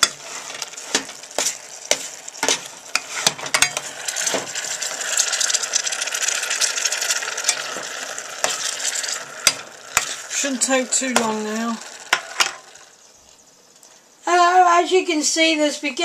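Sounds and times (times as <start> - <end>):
spoon scraping a pan: 0.0 - 13.0
mince sizzling in a saucepan: 0.0 - 14.4.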